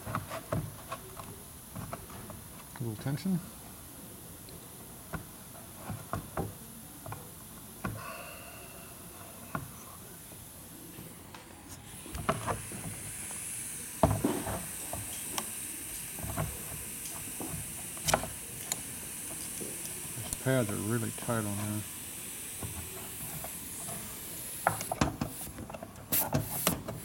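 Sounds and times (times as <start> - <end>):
faint hiss: 0.6 - 27.0.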